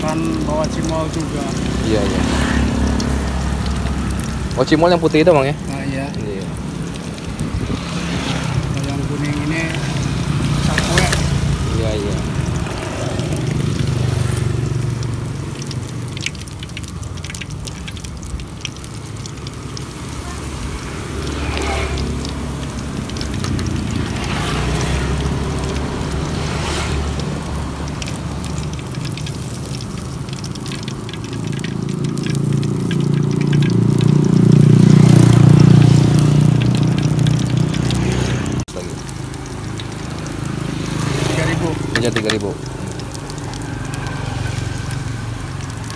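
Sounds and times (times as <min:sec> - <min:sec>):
egg frying in hot oil: 0:00.0 - 0:45.9
oil crackling and popping: 0:00.0 - 0:45.9.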